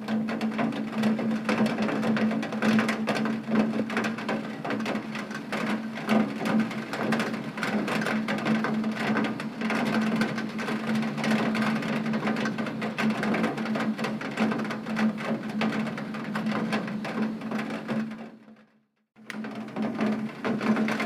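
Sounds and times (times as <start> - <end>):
heavy rain on window: 0.0 - 18.4, 19.3 - 21.0.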